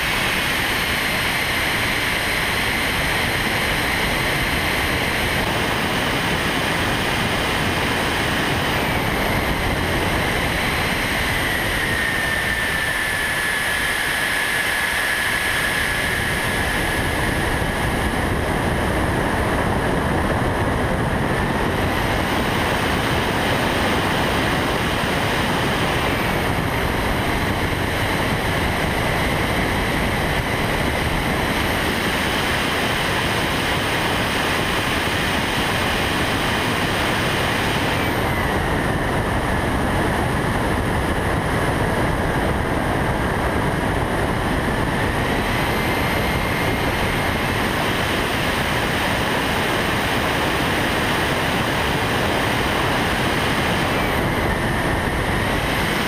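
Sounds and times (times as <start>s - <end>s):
motor and propeller whine: 0.0s - 56.0s
wind rushing over microphone: 0.0s - 56.0s.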